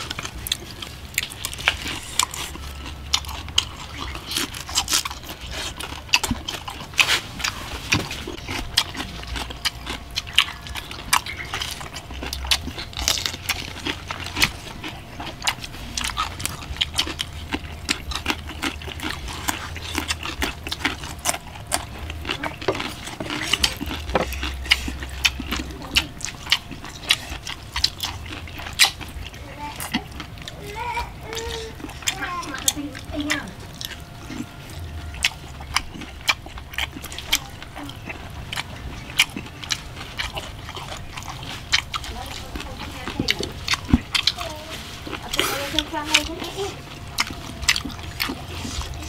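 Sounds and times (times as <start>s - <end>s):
crunchy bites: 0.0s - 30.6s, 31.2s - 49.0s
lip-smacking: 0.0s - 49.0s
wet chewing: 0.0s - 49.0s.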